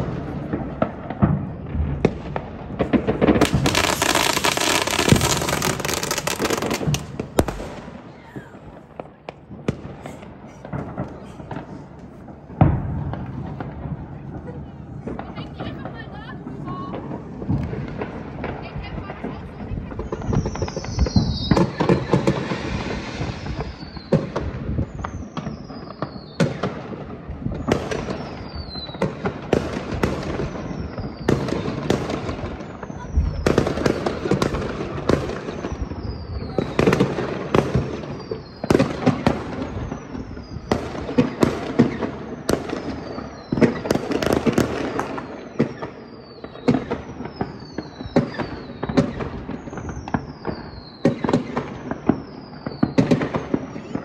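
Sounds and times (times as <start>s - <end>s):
fireworks bangs and crackle: 0.0s - 54.0s
whistling rockets: 0.0s - 54.0s.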